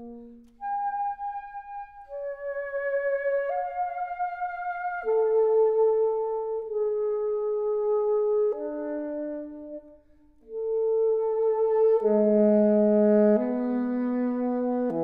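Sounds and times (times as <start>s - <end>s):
alto saxophone slow melody: 0.0s - 15.0s.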